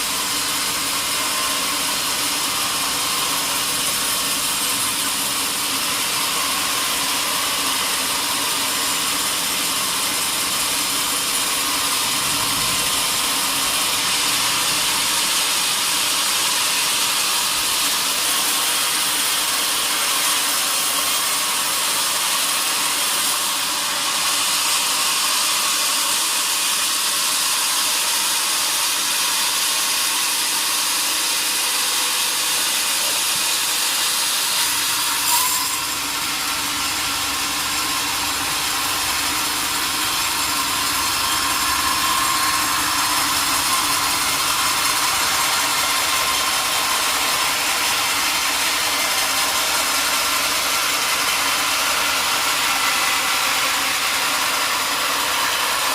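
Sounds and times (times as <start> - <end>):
saw blade cutting log: 0.0 - 55.9.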